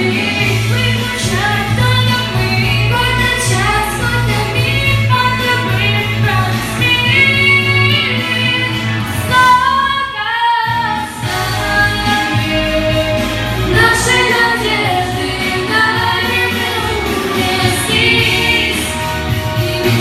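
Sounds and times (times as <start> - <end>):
backing track with bass line: 0.0 - 20.0
women singing pop song: 0.0 - 20.0.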